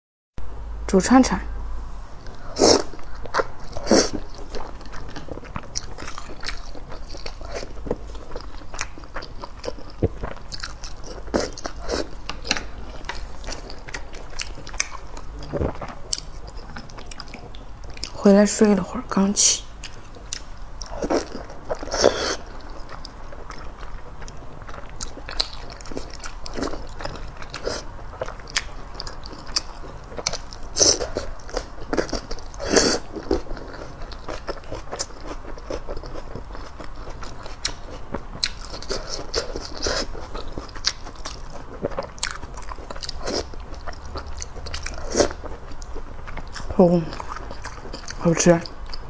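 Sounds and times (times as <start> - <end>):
chewing and crunching food: 2.2 - 18.8, 19.7 - 49.0.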